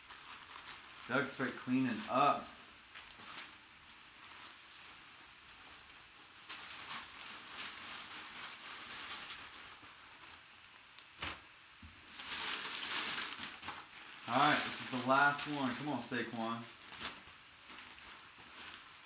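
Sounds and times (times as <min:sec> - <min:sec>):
packing paper crinkling: 0:00.0 - 0:11.4, 0:12.0 - 0:19.0
plastic bag rustling: 0:00.0 - 0:19.0.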